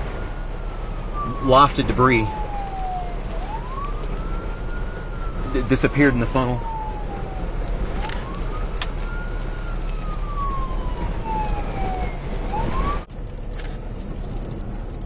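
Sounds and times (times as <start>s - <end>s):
siren wailing: 0.0s - 13.1s
steady rush of noise: 0.0s - 15.0s.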